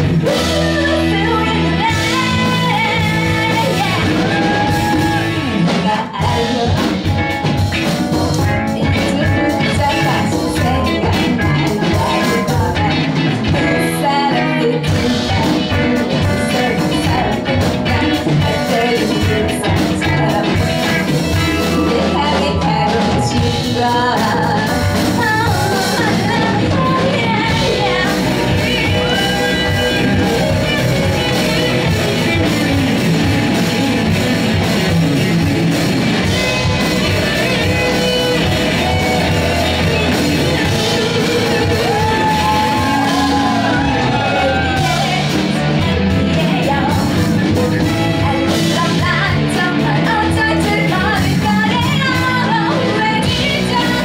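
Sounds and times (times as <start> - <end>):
woman singing: 0.0 - 32.7, 37.3 - 54.0
live rock band playing: 0.0 - 54.0.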